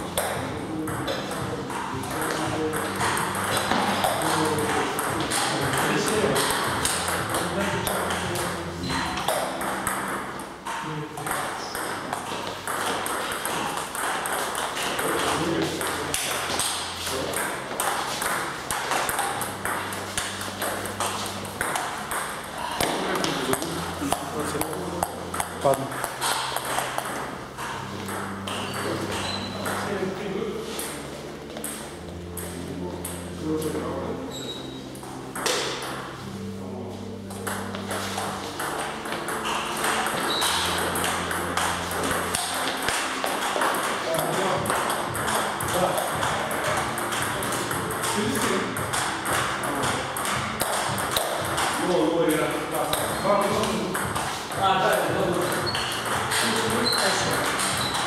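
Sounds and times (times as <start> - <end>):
table tennis balls bouncing: 0.0 - 58.0.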